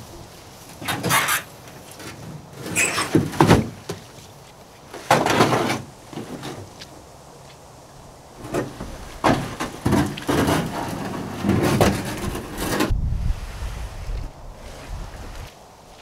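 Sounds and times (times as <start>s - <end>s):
boat hull scraping over grass: 0.0s - 6.8s, 8.4s - 15.6s.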